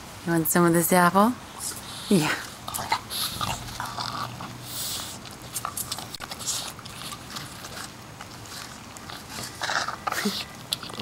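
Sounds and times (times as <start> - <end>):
dog chewing an apple: 1.5 - 11.0.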